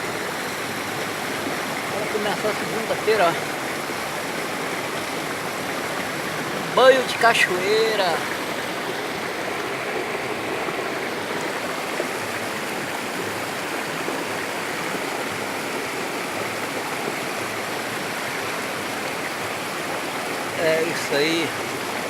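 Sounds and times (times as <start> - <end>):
waterfall splashing into pool: 0.0 - 22.0.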